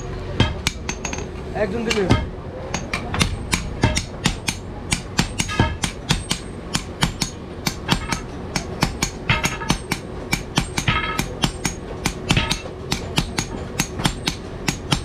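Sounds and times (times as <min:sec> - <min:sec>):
hammer striking steel on anvil: 0:00.0 - 0:15.0.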